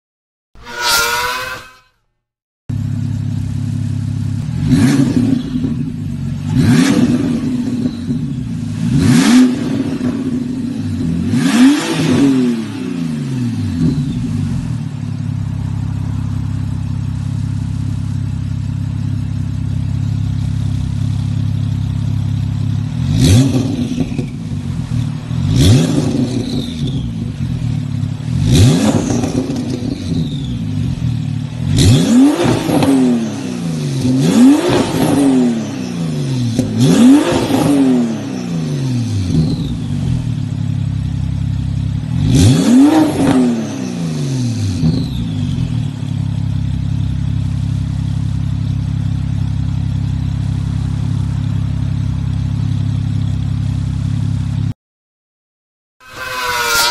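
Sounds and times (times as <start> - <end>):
car engine revving and idling: 2.7 - 54.7.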